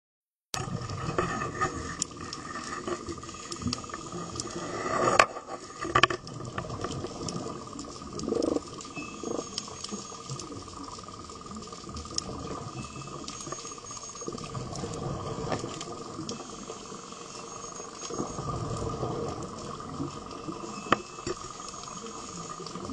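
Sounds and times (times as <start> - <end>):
steady high whine: 0.6 - 22.9
water bubbling underwater: 0.6 - 22.9.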